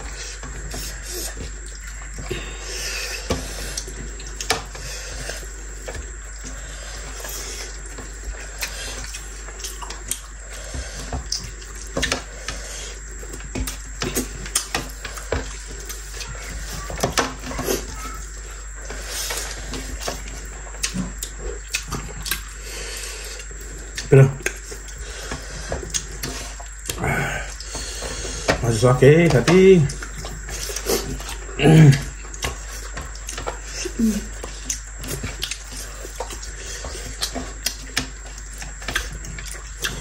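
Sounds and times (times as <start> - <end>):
wet chewing: 0.0 - 40.0.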